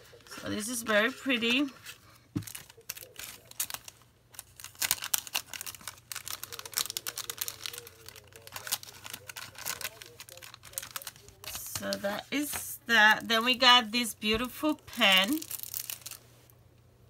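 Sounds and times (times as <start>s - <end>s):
plastic packaging crinkling: 0.0s - 16.5s.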